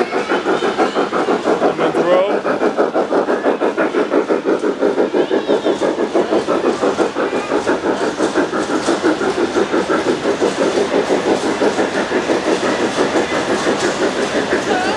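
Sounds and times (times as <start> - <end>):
model train clattering: 0.0 - 14.9.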